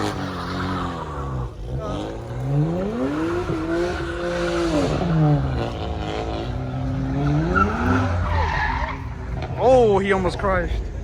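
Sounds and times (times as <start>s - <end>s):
car engine revving: 0.0s - 9.6s
tyres squealing on pavement: 0.0s - 10.8s.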